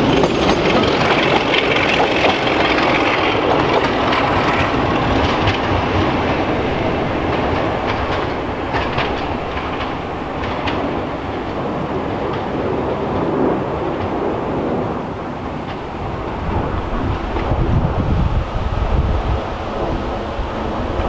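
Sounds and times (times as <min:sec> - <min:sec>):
train rumble: 0:00.0 - 0:21.0
train wheels clicking over rail joints: 0:00.0 - 0:21.0.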